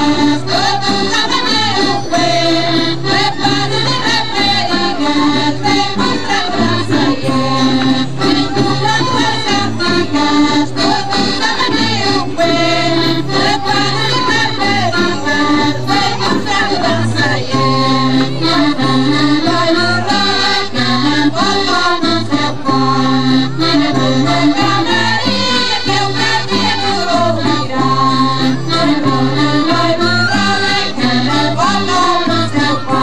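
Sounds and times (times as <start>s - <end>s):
accordion folk dance music: 0.0s - 33.0s.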